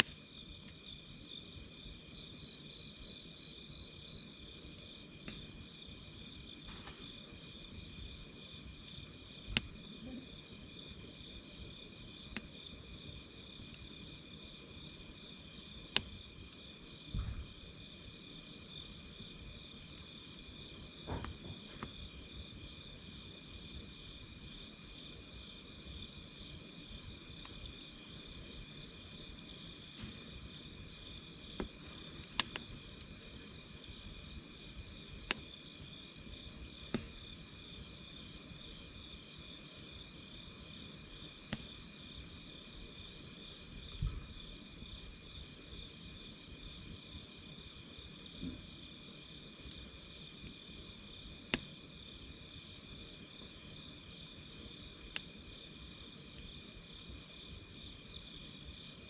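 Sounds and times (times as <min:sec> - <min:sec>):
campfire crackling and popping: 0:00.0 - 0:59.0
insects trilling: 0:00.1 - 0:59.0.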